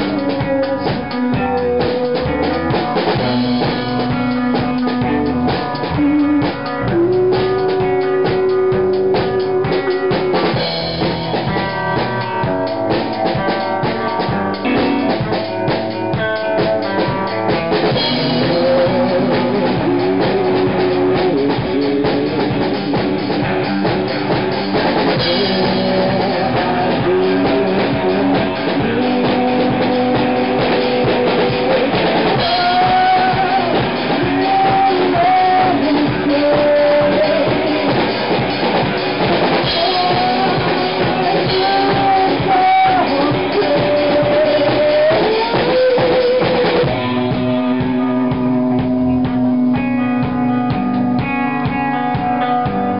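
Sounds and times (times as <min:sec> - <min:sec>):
fast drumming with cymbals: 0:00.0 - 0:52.9
held electric guitar notes: 0:00.0 - 0:52.9
rock band playing live: 0:00.0 - 0:52.9.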